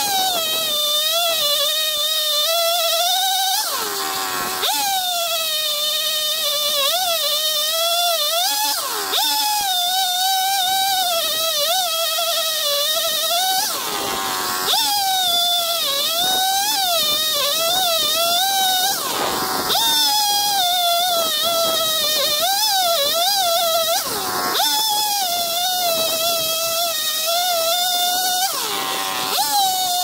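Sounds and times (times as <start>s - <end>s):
chainsaw cutting log: 0.0s - 30.0s.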